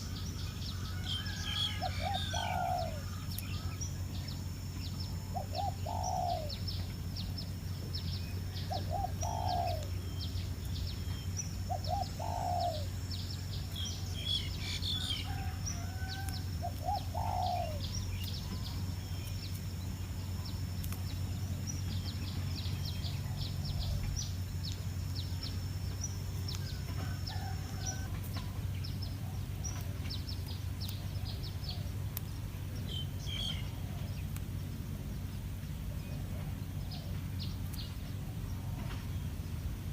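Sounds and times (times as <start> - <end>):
lower falling bird call: 0.0 - 39.4
birds chirping: 0.0 - 39.9
thin steady high whine: 0.0 - 39.9.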